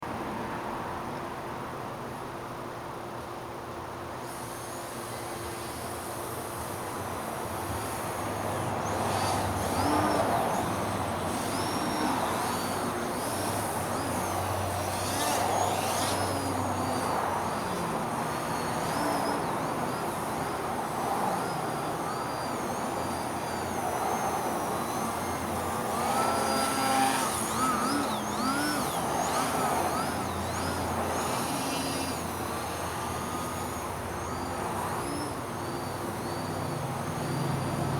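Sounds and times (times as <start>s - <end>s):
model plane motor buzzing: 4.2s - 37.9s.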